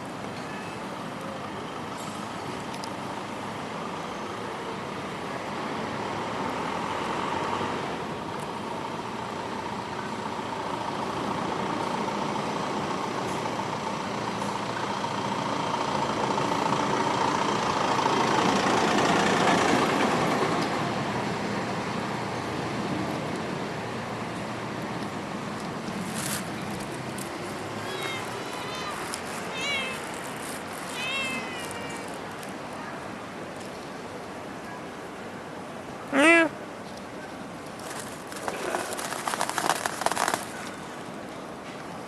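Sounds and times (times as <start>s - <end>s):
road vehicles passing: 0.0s - 42.0s.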